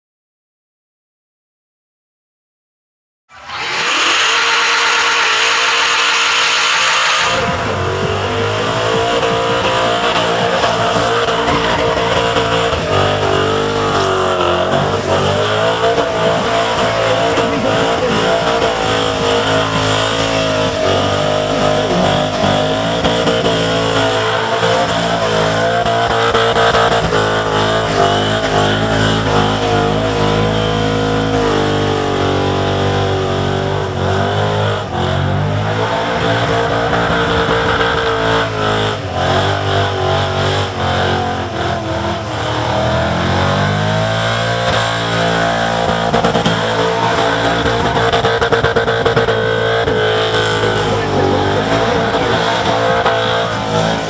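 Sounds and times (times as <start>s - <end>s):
car engine at high revs: 3.3s - 54.0s.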